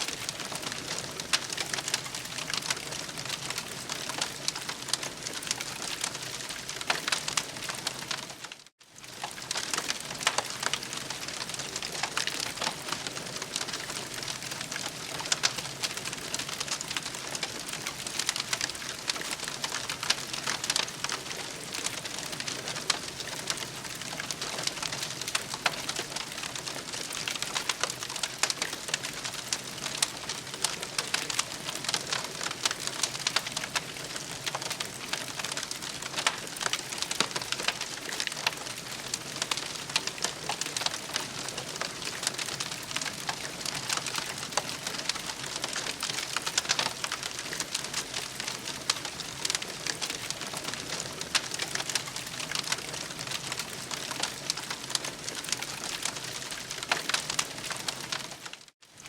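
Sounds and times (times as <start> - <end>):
campfire crackling and popping: 0.0 - 58.7.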